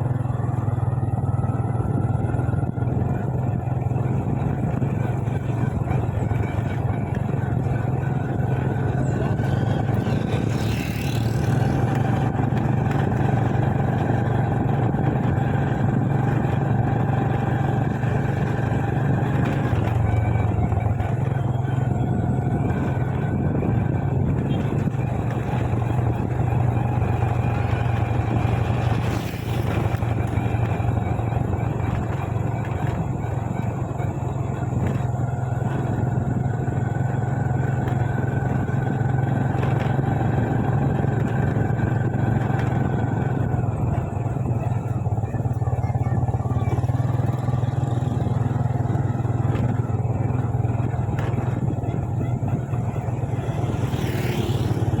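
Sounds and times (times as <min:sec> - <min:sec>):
motorcycle engine cruising: 0:00.0 - 0:55.0
road noise: 0:00.0 - 0:55.0.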